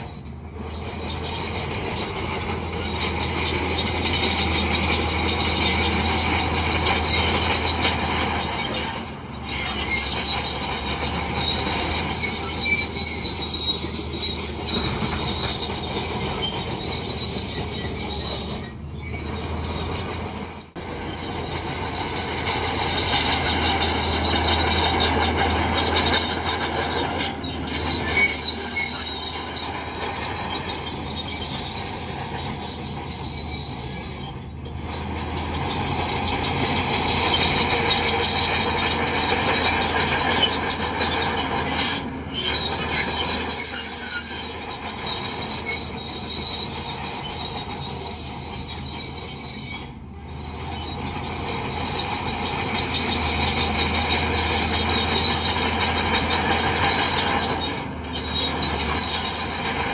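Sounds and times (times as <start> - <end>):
steel tracks squealing and clanking: 0.0 - 59.9.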